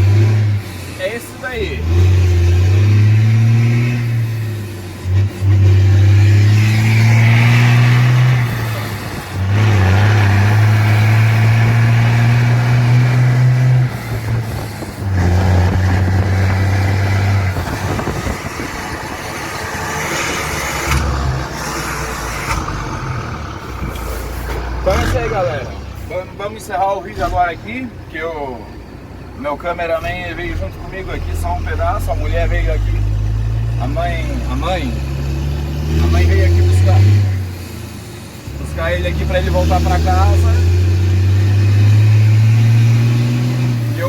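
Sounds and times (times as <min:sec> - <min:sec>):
diesel truck deep exhaust drone: 0:00.0 - 0:44.0.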